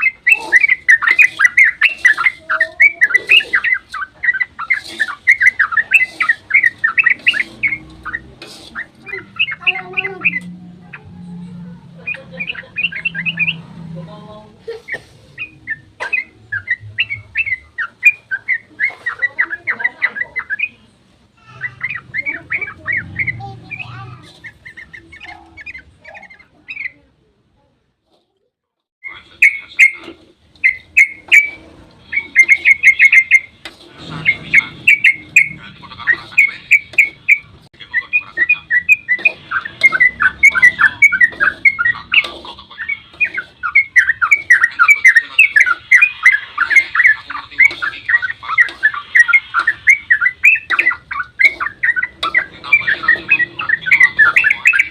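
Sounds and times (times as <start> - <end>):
bird chattering song: 0.0 - 13.8, 14.7 - 27.0, 29.0 - 54.9.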